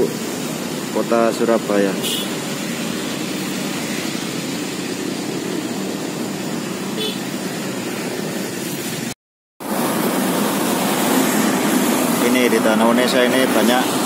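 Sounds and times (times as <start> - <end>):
motorcycles passing: 0.0 - 9.1, 9.7 - 14.0
city road traffic: 0.0 - 14.0.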